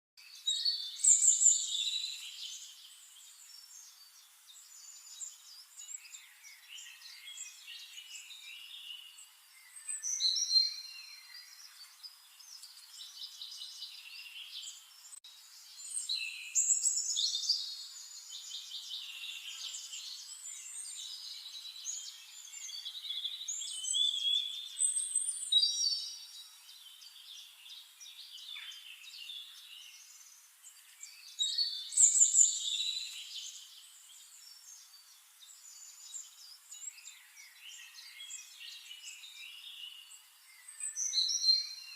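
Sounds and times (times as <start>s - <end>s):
sparrows chirping: 0.2s - 41.9s.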